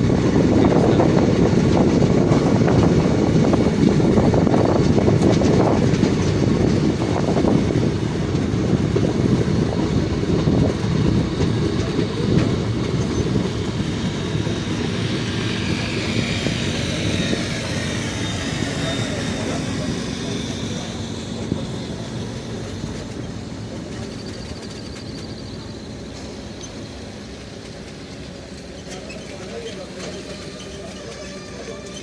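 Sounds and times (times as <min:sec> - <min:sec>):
wind rushing past microphone: 0:00.0 - 0:26.0
train wheels clattering over joints: 0:00.3 - 0:32.0.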